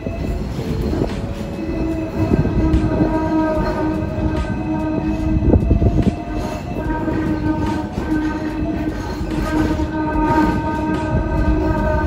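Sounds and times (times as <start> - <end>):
tram hum and rumbling ride noise: 0.0 - 12.0.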